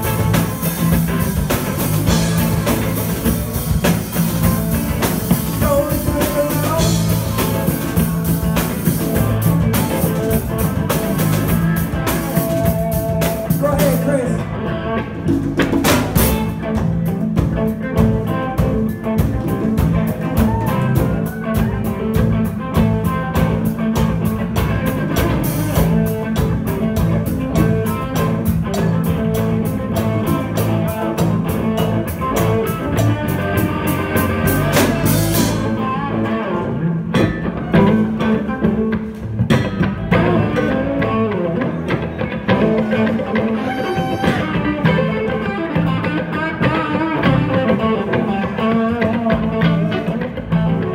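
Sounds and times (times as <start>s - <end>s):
steady drumbeat: 0.0s - 35.8s, 37.1s - 47.6s
electric guitars: 0.0s - 50.9s.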